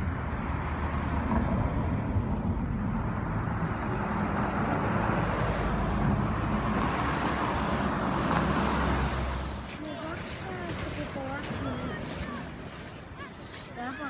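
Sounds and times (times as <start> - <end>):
car engine rumble: 0.0 - 13.4
road noise: 0.0 - 14.0.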